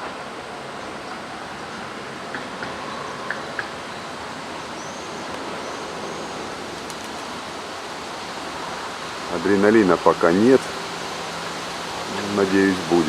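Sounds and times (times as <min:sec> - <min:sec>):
wind gusting between buildings: 0:00.0 - 0:13.0.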